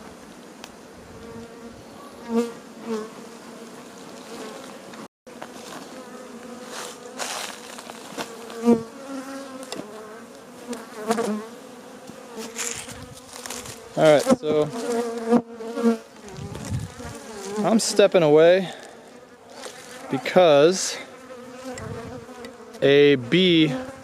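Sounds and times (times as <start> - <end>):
honey bees buzzing: 0.0 - 24.0
bee flying past: 0.7 - 24.0.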